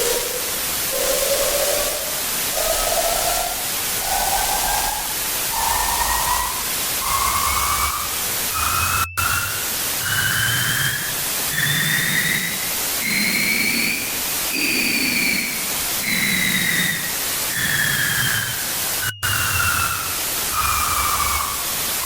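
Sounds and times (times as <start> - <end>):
pulsing whistling sci-fi tone: 0.0 - 22.0.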